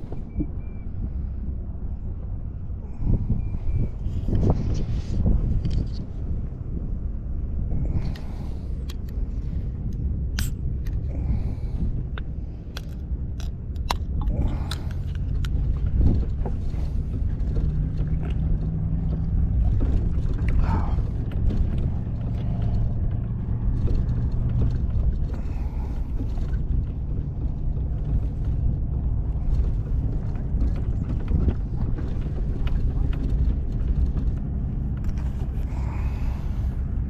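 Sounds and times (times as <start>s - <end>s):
engine rumbling: 0.0s - 37.0s.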